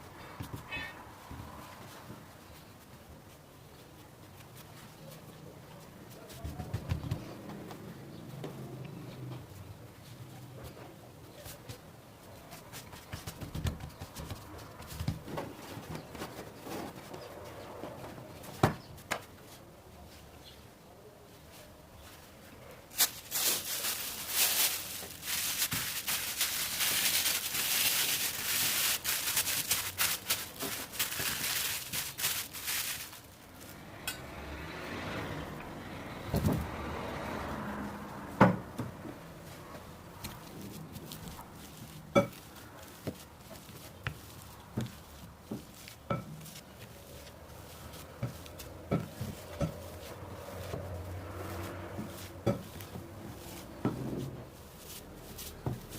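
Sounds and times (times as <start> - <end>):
scraping and rustling: 0.4 - 20.4, 21.3 - 34.4, 37.6 - 55.9.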